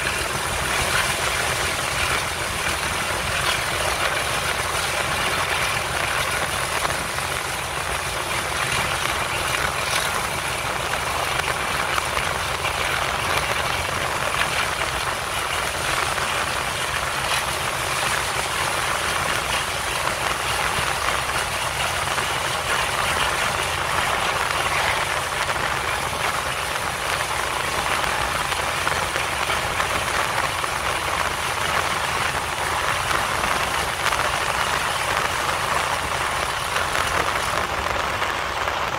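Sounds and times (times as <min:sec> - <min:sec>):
diesel locomotive engine working hard: 0:00.0 - 0:38.9.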